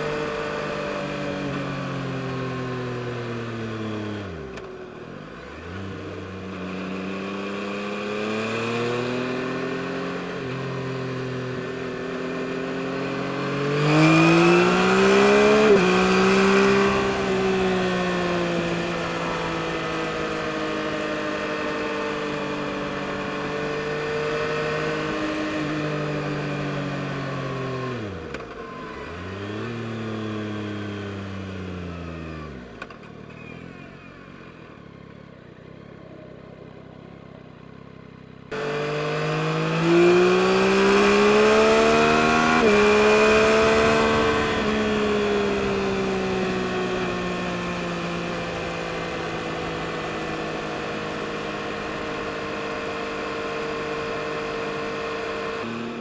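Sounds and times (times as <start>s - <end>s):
motorcycle engine revving: 0.0s - 34.3s, 38.5s - 56.0s.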